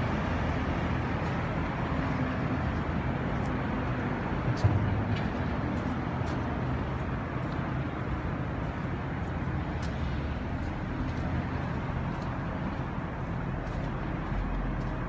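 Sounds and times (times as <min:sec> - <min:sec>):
low urban rumble: 0:00.0 - 0:15.0.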